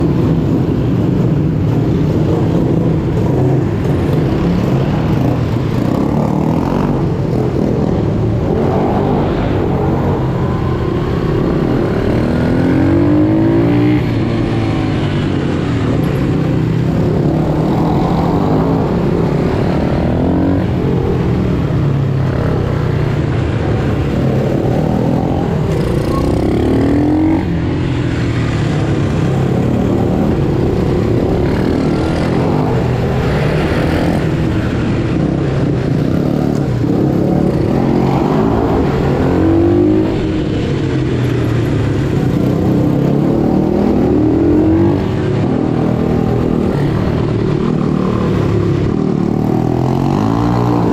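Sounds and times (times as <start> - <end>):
pit bike engines revving: 0.0 - 50.9.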